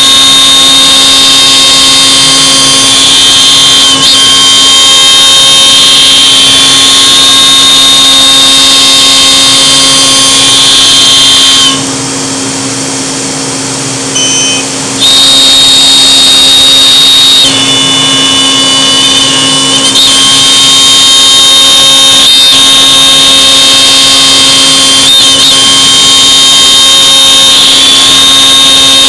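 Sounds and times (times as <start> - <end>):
constant machine hum: 0.0 - 29.0
router spindle high-pitched whine: 0.0 - 29.0.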